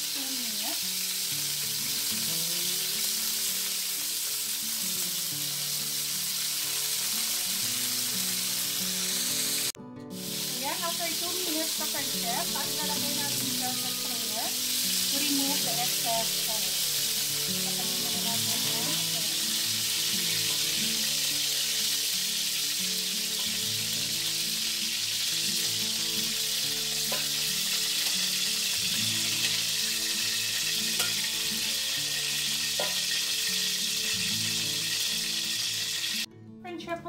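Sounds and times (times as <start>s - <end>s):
broccoli sizzling in hot oil: 0.0s - 36.3s.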